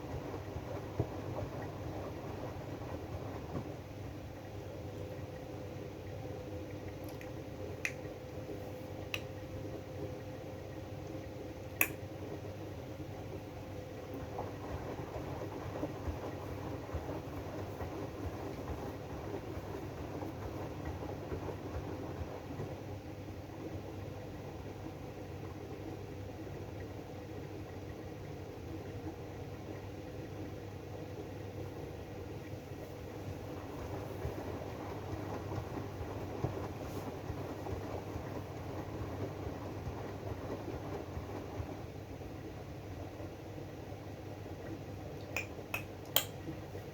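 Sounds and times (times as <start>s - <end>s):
washing machine drum humming: 0.0s - 46.9s.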